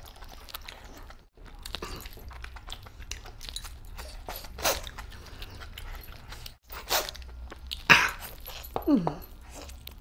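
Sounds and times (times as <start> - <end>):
man chewing food: 0.0 - 10.0.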